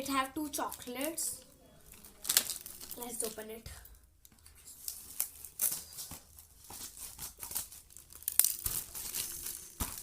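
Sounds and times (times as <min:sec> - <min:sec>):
packaging crinkling and tearing: 0:00.5 - 0:03.5, 0:04.5 - 0:10.0.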